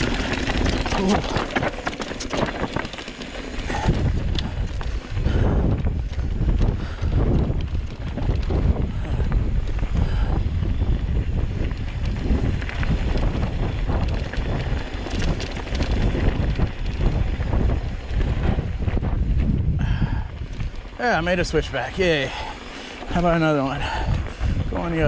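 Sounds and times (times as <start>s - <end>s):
tyres crunching over gravel: 0.0s - 9.8s, 10.7s - 19.6s, 20.4s - 25.0s
bike clicking and rattling: 0.0s - 25.0s
wind buffeting microphone: 0.0s - 25.0s.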